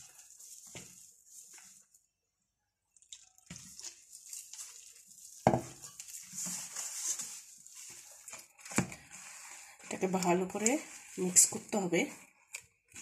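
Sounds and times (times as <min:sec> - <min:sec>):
hand squelching wet batter: 0:00.0 - 0:02.1, 0:02.9 - 0:13.0.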